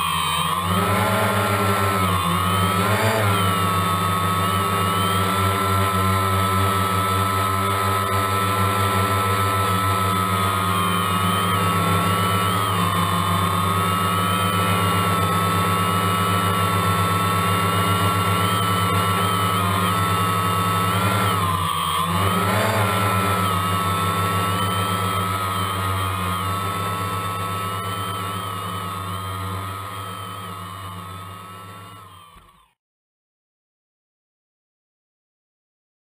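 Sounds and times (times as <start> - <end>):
drone propellers whining: 0.0 - 32.8.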